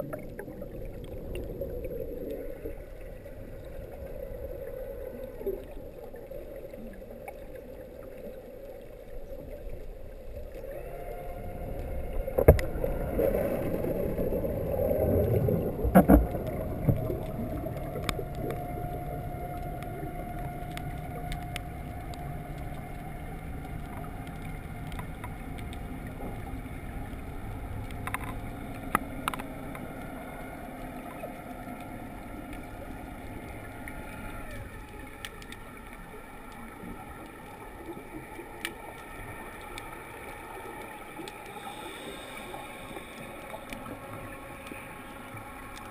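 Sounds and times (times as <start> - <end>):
electric motor whine underwater: 0.0 - 45.9
water rushing: 0.0 - 45.9.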